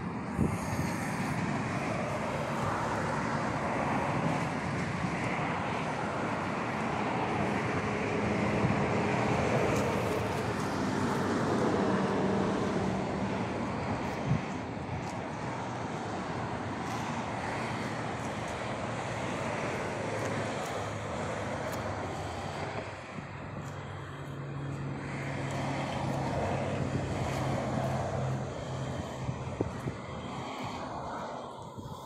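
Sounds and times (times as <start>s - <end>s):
continuous rushing noise: 0.0s - 32.0s.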